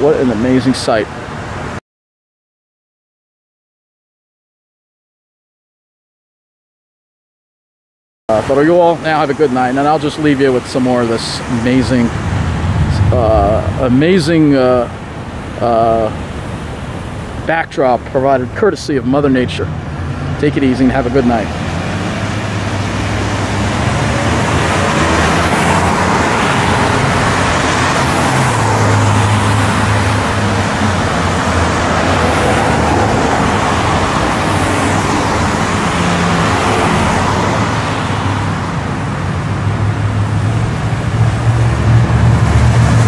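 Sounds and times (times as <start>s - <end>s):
road traffic passing: 0.0s - 1.8s, 8.3s - 43.0s.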